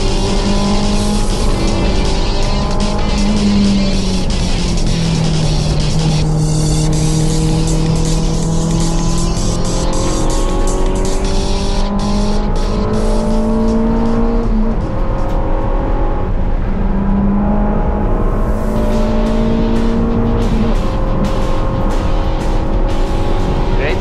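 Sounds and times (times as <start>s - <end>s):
car engine accelerating hard: 0.0s - 24.0s
music: 0.0s - 24.0s.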